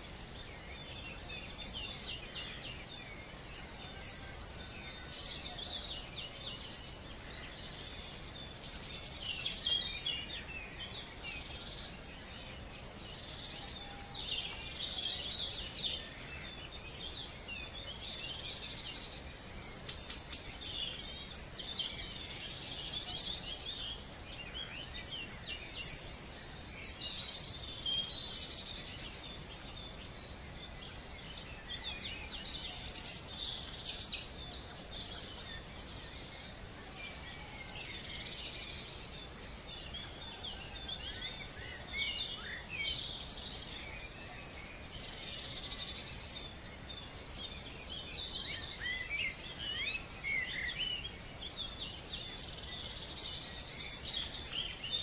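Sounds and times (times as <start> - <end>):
faint low background noise: 0.0 - 55.0
songbirds singing: 0.0 - 55.0.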